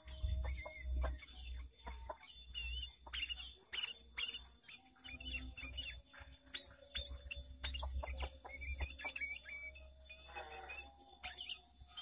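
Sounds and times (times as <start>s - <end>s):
bird chirping and warbling: 0.0s - 12.0s.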